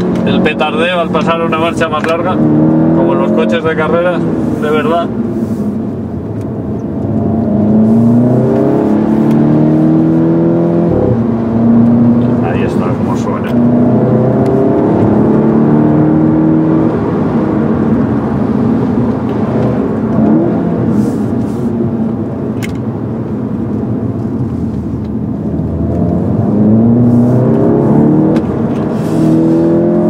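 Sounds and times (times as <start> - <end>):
car engine revving: 0.0 - 23.0, 23.8 - 30.0.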